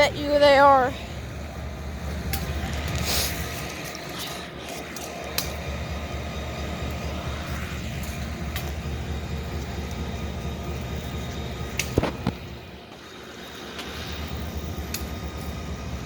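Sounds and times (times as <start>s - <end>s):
locomotive engine idling: 0.0s - 16.0s.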